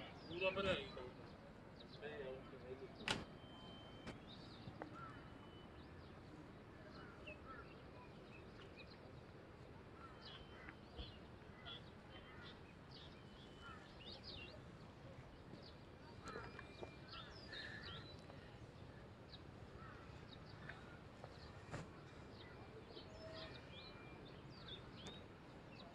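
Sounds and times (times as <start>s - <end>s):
faint birdsong chirps: 0.0s - 25.9s
low outdoor background noise: 0.0s - 25.9s.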